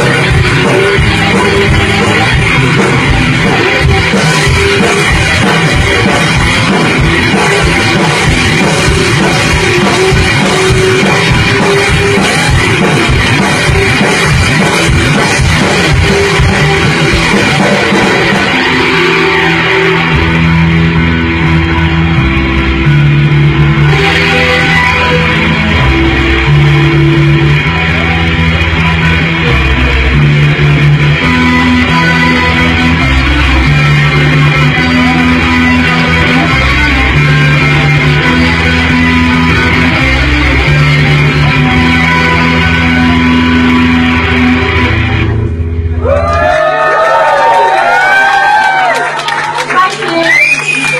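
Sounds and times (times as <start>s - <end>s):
live rock band playing: 0.0s - 50.9s
ringing guitar and bass notes: 0.0s - 50.9s.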